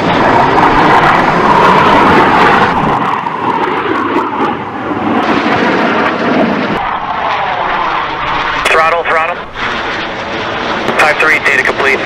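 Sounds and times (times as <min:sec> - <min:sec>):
jet engine passing low: 0:00.0 - 0:12.0.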